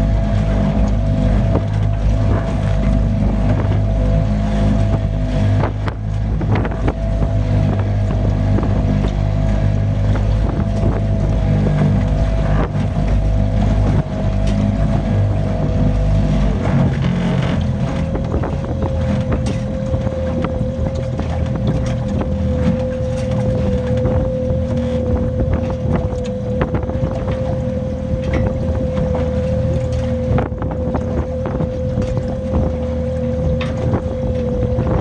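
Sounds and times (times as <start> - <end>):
steady mid-pitched hum: 0.0 - 35.0
wind buffeting microphone: 0.0 - 35.0.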